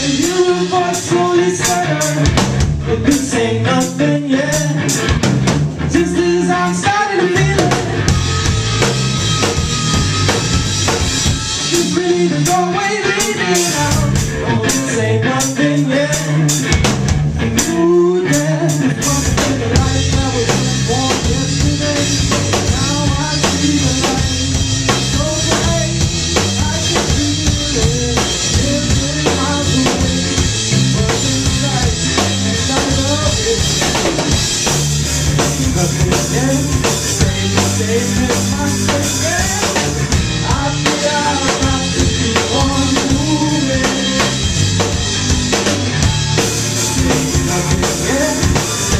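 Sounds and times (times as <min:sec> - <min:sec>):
bending lead guitar melody: 0:00.0 - 0:48.9
blues-rock band playing: 0:00.0 - 0:48.9.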